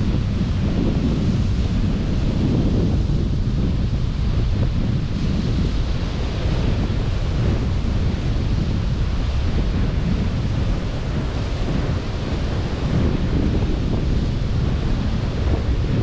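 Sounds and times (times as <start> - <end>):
sea surf washing onto beach: 0.0 - 16.0
wind buffeting microphone: 0.0 - 16.0.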